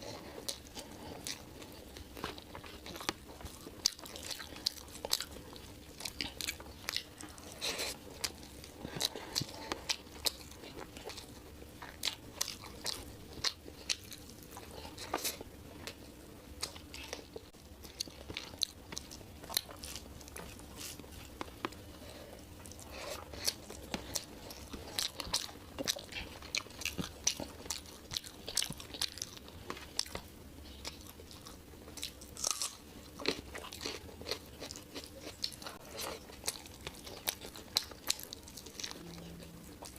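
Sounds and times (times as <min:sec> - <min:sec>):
faint steady hum: 0:00.0 - 0:39.9
person chewing food: 0:00.0 - 0:39.9.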